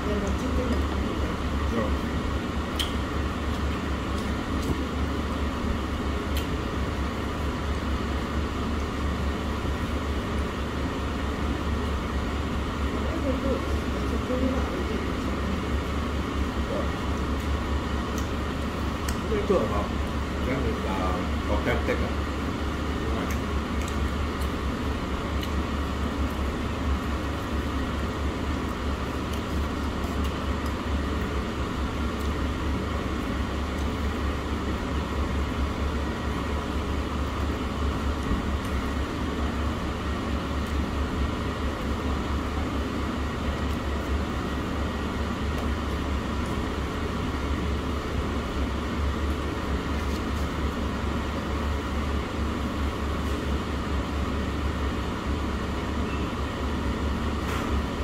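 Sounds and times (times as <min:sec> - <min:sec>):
low mechanical rumble with hiss: 0:00.0 - 0:58.0.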